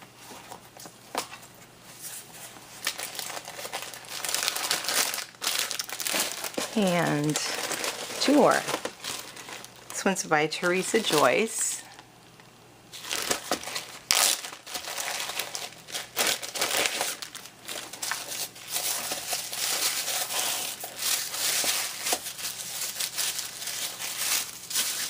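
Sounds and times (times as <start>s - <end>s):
paper crinkling and rustling: 0.1s - 12.0s, 12.9s - 25.0s.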